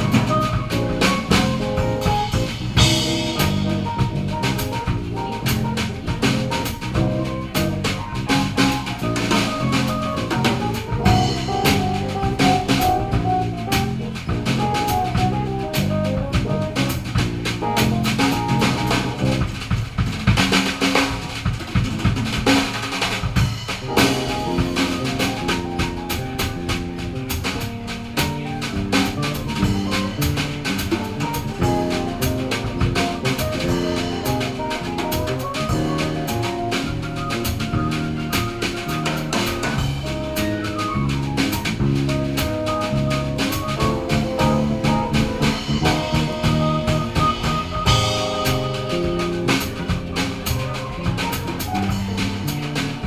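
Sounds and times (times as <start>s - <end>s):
cymbals: 0.0s - 53.0s
jazz-funk band playing: 0.0s - 53.0s
snare and bass drum hits: 0.0s - 53.0s.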